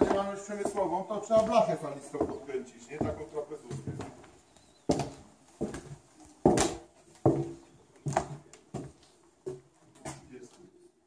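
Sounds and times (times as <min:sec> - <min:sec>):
footsteps on wooden floorboards: 0:00.0 - 0:10.3.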